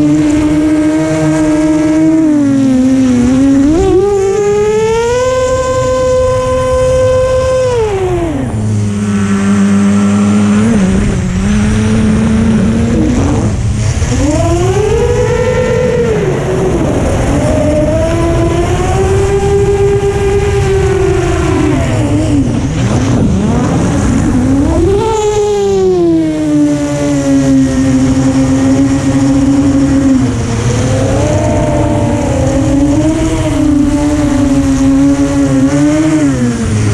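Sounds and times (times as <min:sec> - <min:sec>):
drone motors whining: 0:00.0 - 0:36.9.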